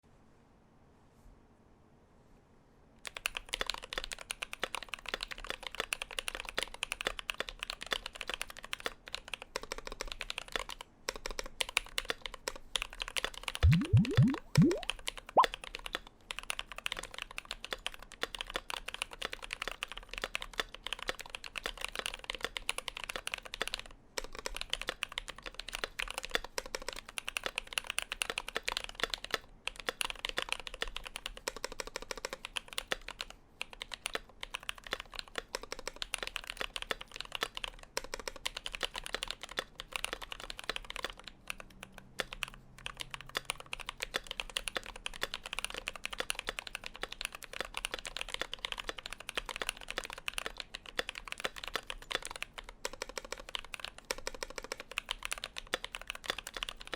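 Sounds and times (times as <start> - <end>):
mechanical keyboard typing: 3.1 - 56.9.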